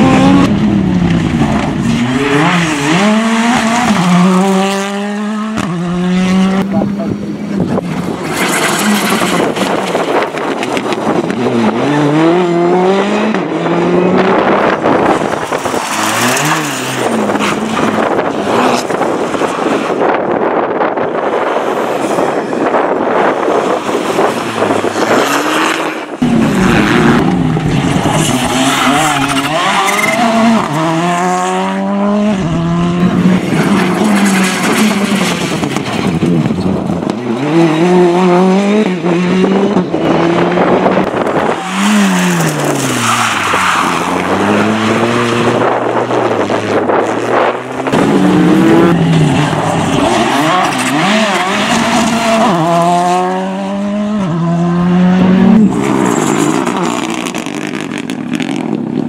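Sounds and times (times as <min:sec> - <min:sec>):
rally car engines revving hard: 0:00.0 - 0:59.0.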